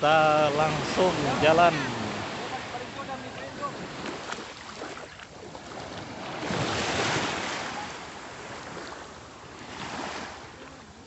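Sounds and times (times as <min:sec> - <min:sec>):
small waves washing up beach: 0:00.0 - 0:11.0.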